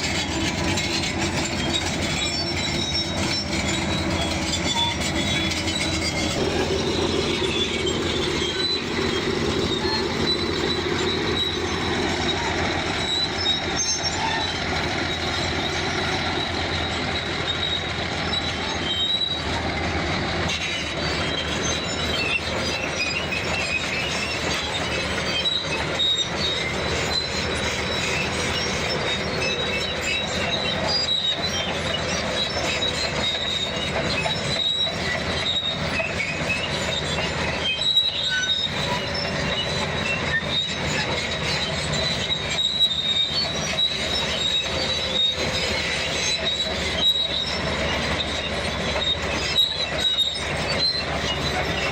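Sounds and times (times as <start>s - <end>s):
diesel engine running: 0.0s - 51.9s
squeal of steel crawler tracks: 0.0s - 51.9s.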